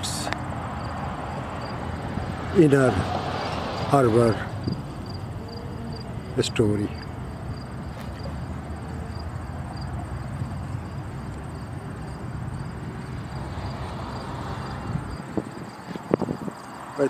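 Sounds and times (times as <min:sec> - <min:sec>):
faint high insect chirp: 0:00.0 - 0:02.6, 0:03.2 - 0:17.0.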